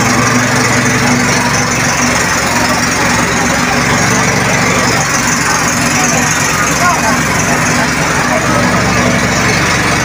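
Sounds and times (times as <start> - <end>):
fire truck engine running: 0.0 - 10.0.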